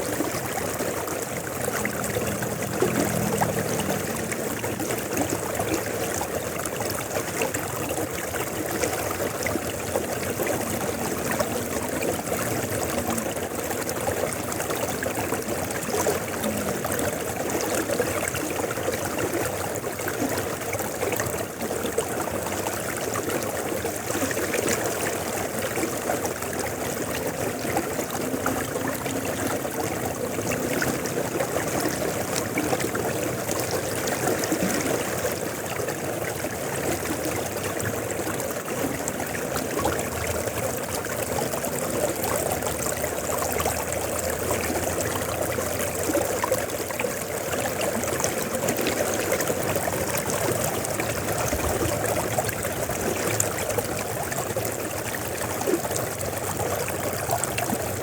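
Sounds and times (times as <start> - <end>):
river water splashing over stones: 0.0 - 58.0.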